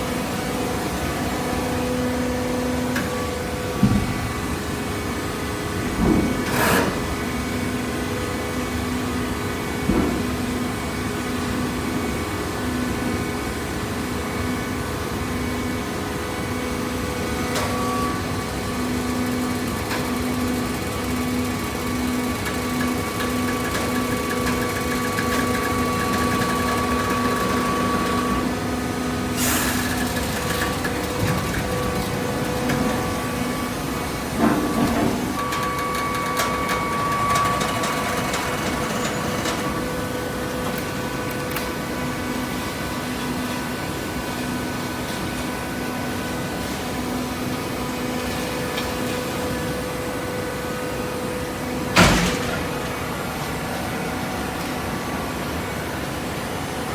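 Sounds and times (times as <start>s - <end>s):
baler motor and pump humming: 0.0s - 56.9s.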